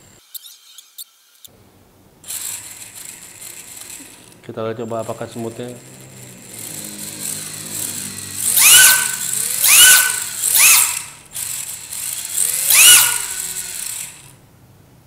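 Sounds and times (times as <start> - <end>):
electric motor revving: 2.2 - 14.4
gear whir: 2.3 - 14.4.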